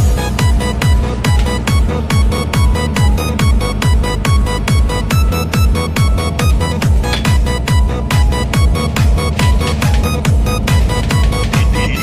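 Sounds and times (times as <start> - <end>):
electronic dance music: 0.0 - 12.0
kick drum: 0.0 - 12.0.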